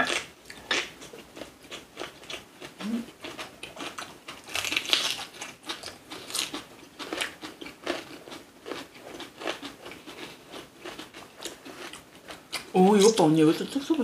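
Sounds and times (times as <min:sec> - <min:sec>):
chewing and crunching food: 0:00.0 - 0:13.1.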